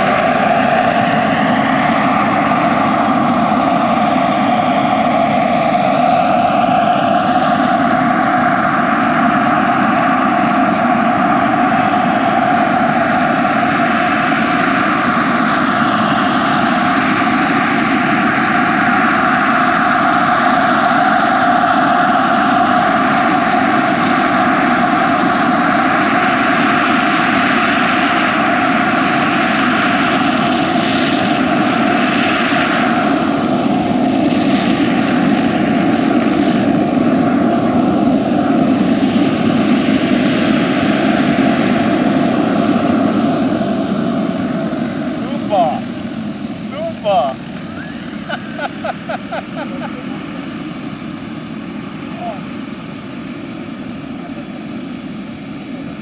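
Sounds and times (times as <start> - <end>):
gas turbine high whine: 0.0 - 56.0
helicopter rotor noise: 0.0 - 56.0.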